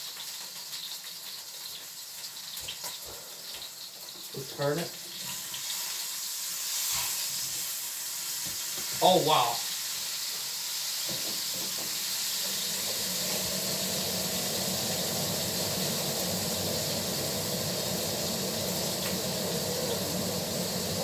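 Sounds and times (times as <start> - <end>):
steak sizzling in a frying pan: 0.0 - 21.0.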